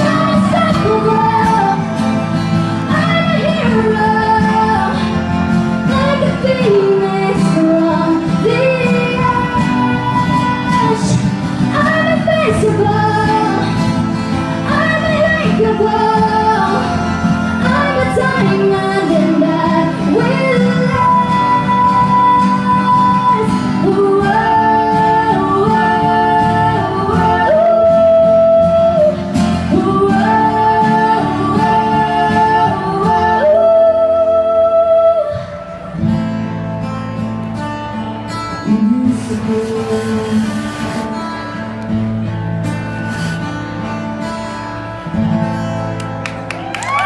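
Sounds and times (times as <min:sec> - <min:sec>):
woman singing: 0:00.0 - 0:35.8, 0:38.6 - 0:41.0
country-pop band playing: 0:00.0 - 0:47.0.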